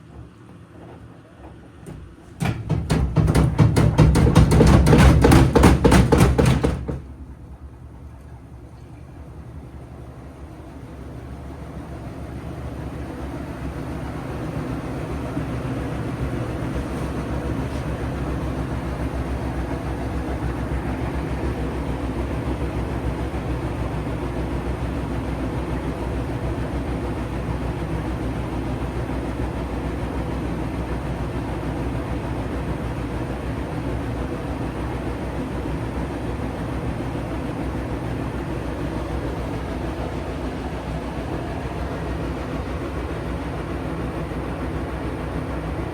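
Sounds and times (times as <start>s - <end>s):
washing machine spinning: 0.0s - 45.9s.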